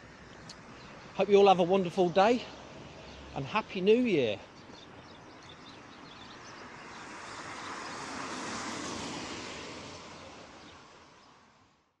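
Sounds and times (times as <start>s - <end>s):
vehicle passing: 0.6s - 11.6s.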